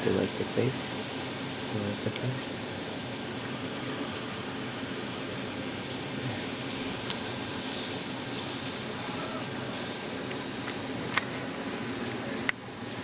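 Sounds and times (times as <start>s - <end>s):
room noise hiss and hum: 0.0s - 13.0s.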